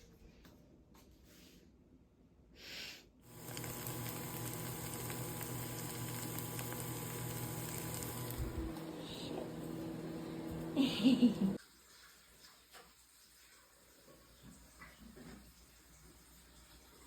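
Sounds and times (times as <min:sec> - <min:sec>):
running water: 0:03.3 - 0:17.0.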